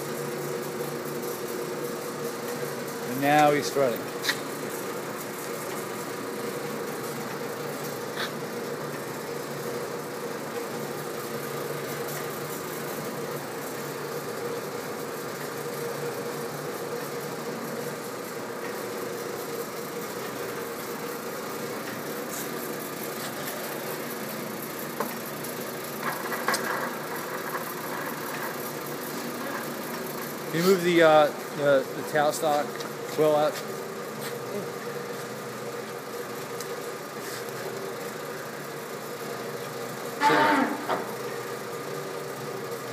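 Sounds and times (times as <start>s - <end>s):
lathe running with mechanical hum: 0.0s - 42.9s.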